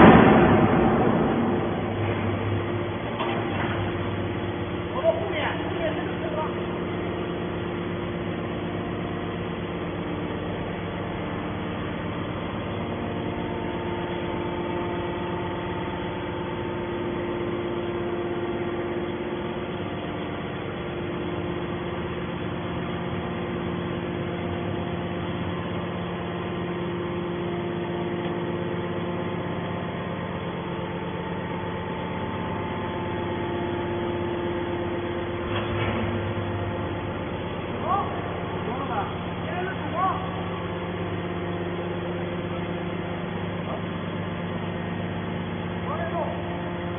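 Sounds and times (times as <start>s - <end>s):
hydraulic baler humming: 0.0s - 46.9s.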